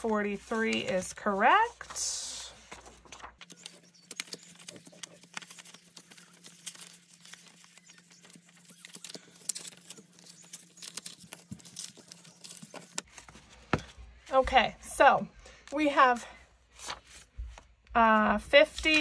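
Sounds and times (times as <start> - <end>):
banknotes rustling: 0.0 - 14.4, 15.8 - 19.0.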